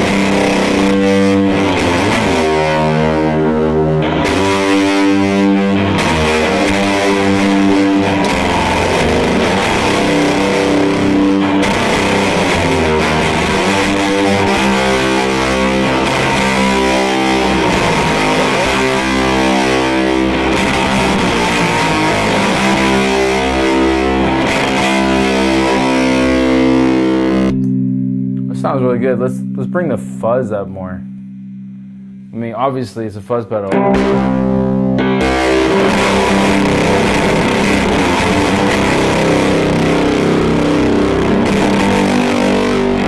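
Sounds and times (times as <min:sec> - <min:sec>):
fuzzed electric guitar: 0:00.0 - 0:43.0.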